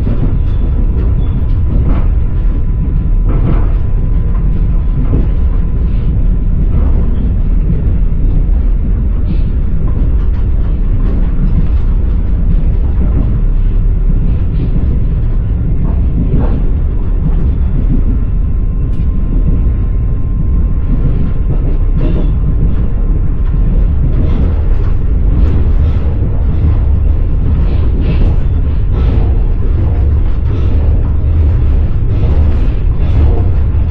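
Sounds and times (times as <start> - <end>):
train rumble: 0.0 - 33.9
wheels clattering over rails: 0.0 - 33.9.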